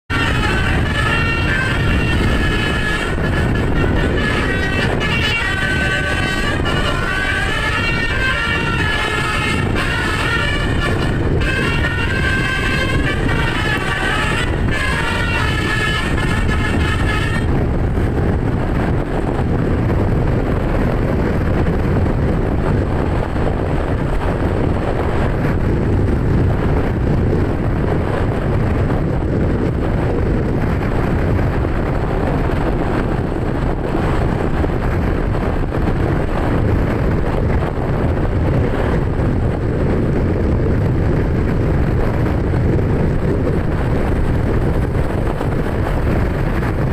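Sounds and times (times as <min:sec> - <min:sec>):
moving vehicle rumble: 0:00.0 - 0:46.9
wind buffeting microphone: 0:00.1 - 0:46.9.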